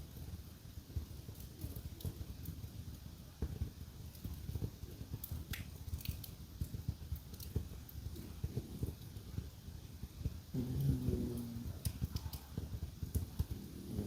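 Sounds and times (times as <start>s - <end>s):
sharp snaps of fire: 0.0s - 14.0s
wood fire crackling: 0.0s - 14.0s.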